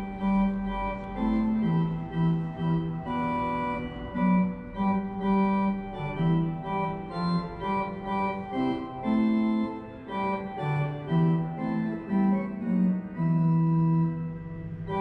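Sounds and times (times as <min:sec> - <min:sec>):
organ melody over bass line: 0:00.0 - 0:15.0.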